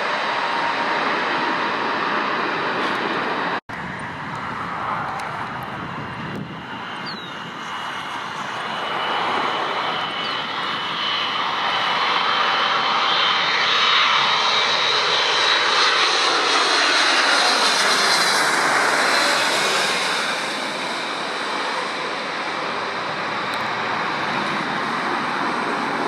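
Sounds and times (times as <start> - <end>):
jet engine rush with whine: 0.0 - 26.0.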